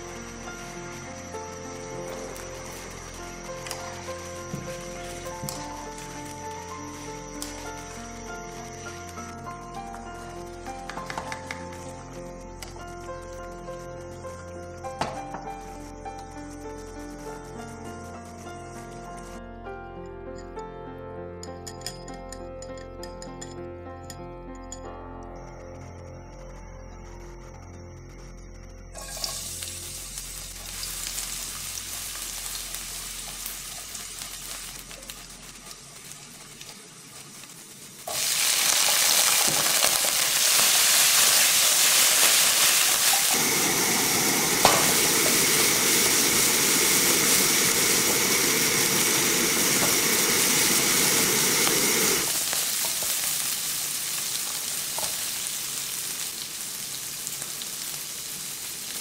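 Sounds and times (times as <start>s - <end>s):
garlic sizzling in oil: 0.0s - 19.3s, 28.9s - 59.0s.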